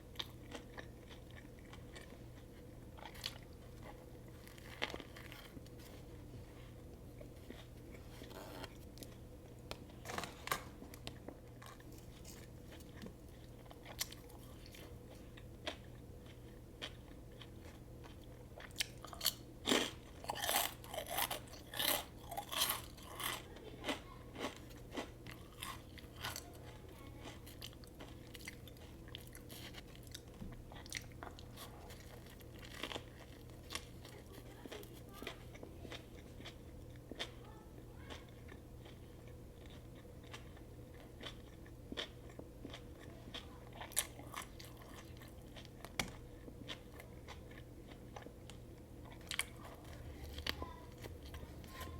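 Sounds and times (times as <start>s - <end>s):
sandwich chewing and crunching: 0.0s - 51.9s.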